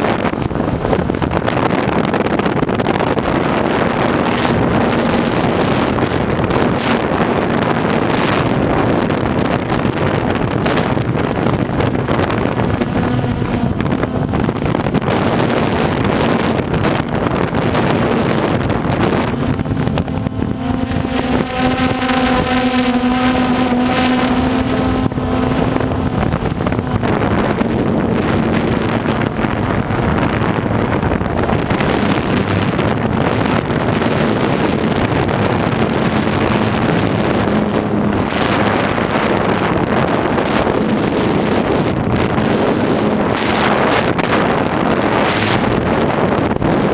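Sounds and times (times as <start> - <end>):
drone propellers humming: 0.0 - 46.9
wind buffeting microphone: 0.0 - 46.9.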